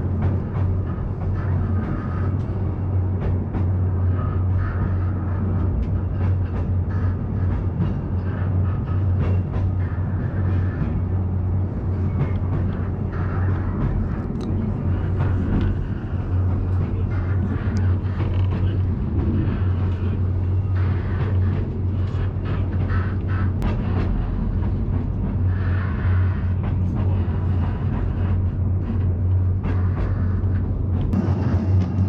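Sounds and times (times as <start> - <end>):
train low hum: 0.0 - 32.0
wheel and rail clatter: 0.0 - 32.0.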